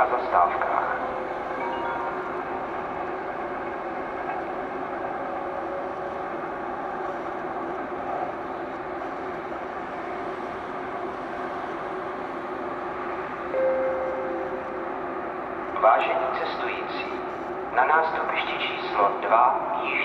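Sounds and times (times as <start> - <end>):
train rolling on tracks: 0.0 - 20.0.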